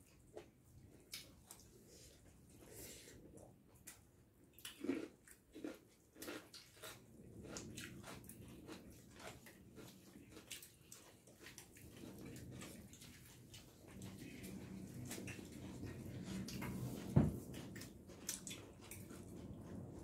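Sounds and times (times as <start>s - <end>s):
chewing and mouth smacks: 0.0s - 1.8s, 3.4s - 20.0s
fingers squishing food on plates: 3.5s - 20.0s.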